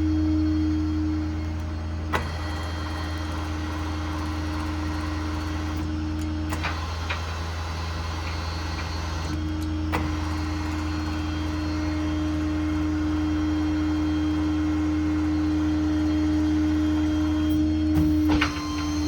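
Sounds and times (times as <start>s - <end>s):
hydraulic crane whine: 0.0s - 19.0s.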